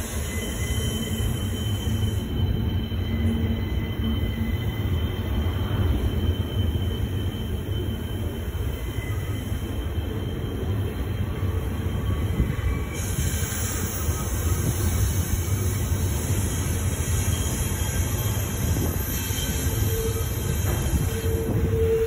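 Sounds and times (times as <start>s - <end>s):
high thin wheel squeal: 0.0s - 22.0s
train wheels rumbling on rail: 0.0s - 22.0s.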